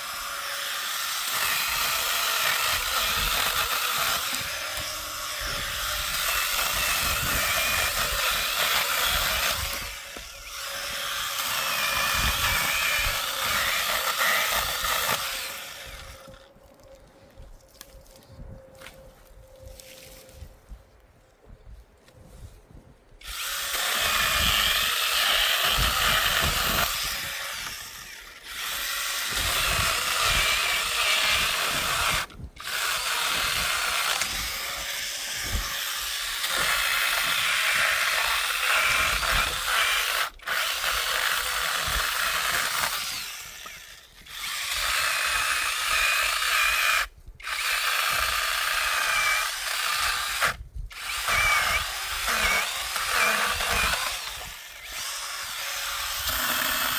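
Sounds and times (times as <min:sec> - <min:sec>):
power tool whining: 0:00.0 - 0:16.8, 0:23.2 - 0:56.9.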